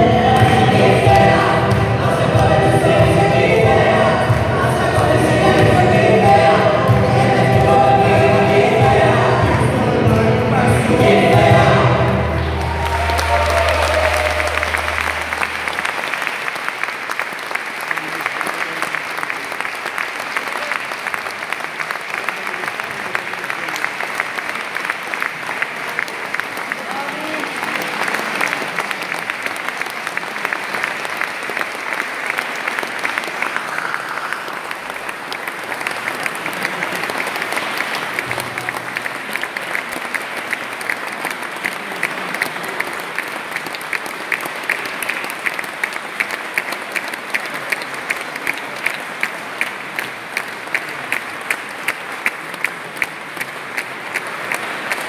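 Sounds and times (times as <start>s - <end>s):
audience applauding: 0.0s - 55.0s
rhythmic clapping in unison: 0.0s - 55.0s.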